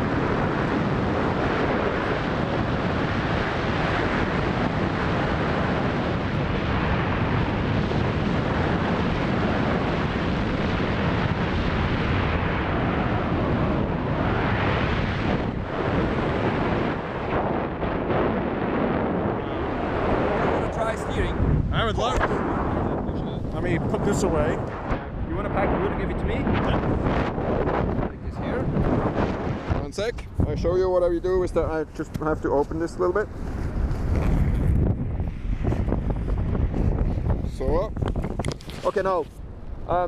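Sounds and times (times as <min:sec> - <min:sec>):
airflow buffeting microphone: 0:00.0 - 0:40.0.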